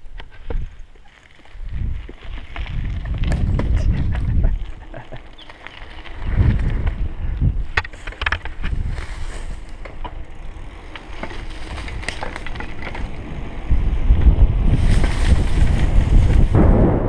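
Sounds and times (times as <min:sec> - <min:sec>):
bike rattles and clicks: 0:00.0 - 0:17.0
bike tyres on asphalt: 0:00.0 - 0:17.0
wind buffeting microphone: 0:01.5 - 0:17.0.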